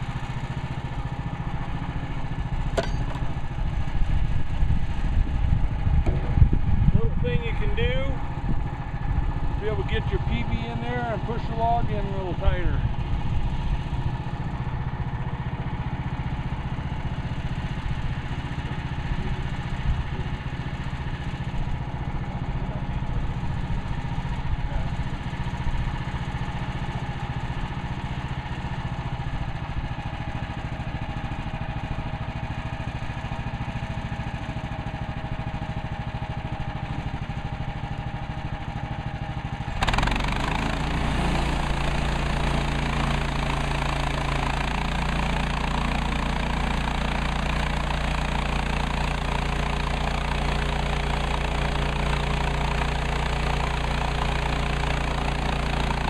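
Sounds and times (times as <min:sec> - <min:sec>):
sawmill gas engine running: 0:00.0 - 0:56.0.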